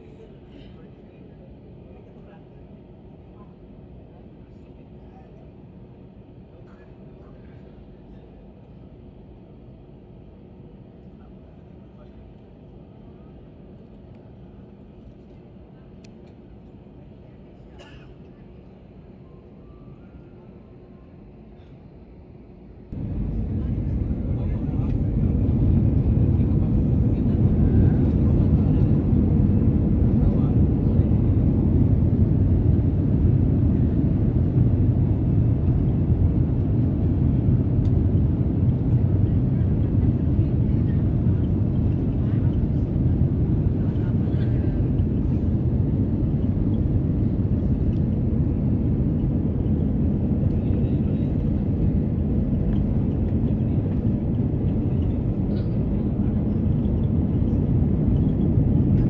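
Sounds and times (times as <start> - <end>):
airliner rumble on runway: 0.0 - 59.0.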